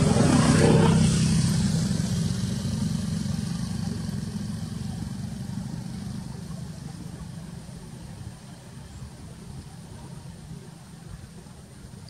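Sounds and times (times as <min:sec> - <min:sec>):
small engine running: 0:00.0 - 0:10.5.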